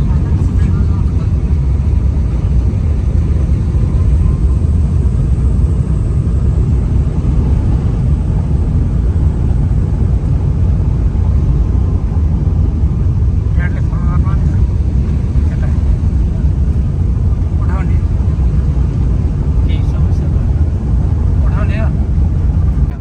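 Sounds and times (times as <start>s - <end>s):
vehicle rumbling along road: 0.0s - 23.0s.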